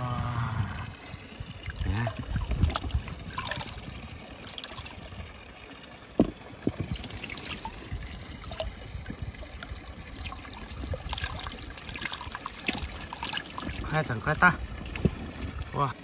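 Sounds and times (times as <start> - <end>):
water pouring from container: 0.0 - 16.0.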